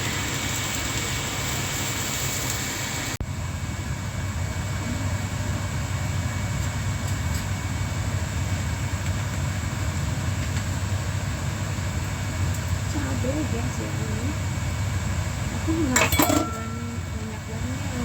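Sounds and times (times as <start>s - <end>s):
fritters deep-frying in hot oil: 0.0s - 18.0s.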